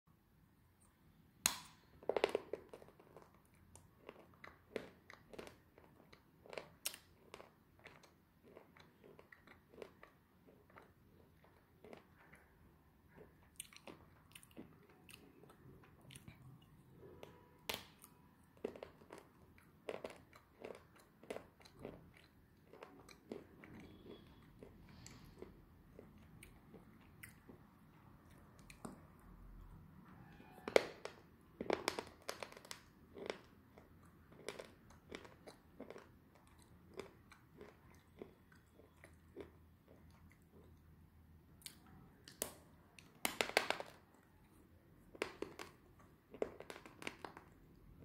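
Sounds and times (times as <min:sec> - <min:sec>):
crunching and chewing: 0:00.8 - 0:29.8, 0:30.6 - 0:40.9, 0:41.5 - 0:48.0.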